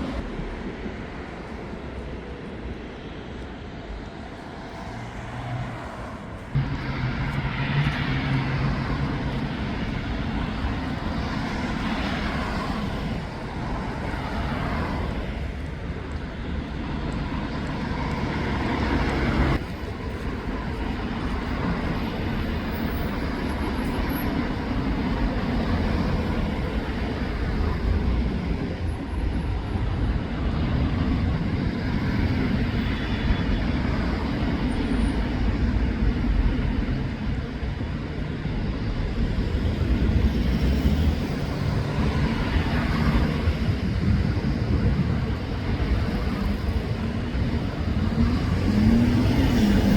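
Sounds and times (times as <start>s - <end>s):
vehicles passing: 0.0s - 49.9s.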